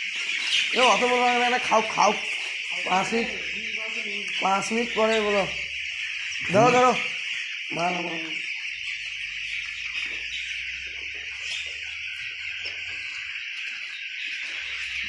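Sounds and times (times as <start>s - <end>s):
chicks cheeping: 0.0s - 15.0s.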